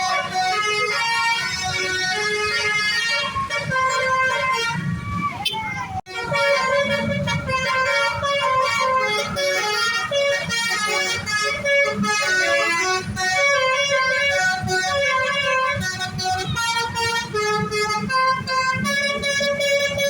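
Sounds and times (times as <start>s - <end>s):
bus multi-tone horn melody: 0.0s - 20.0s.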